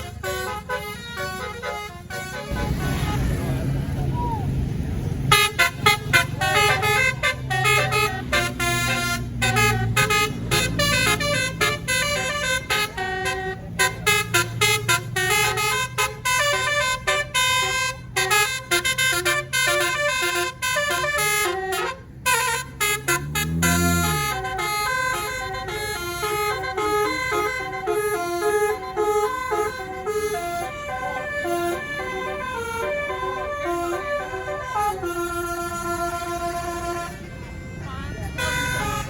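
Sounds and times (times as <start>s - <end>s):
multi-tone air horn melody: 0.0s - 3.9s, 5.3s - 39.0s
bus engine humming: 0.0s - 39.0s.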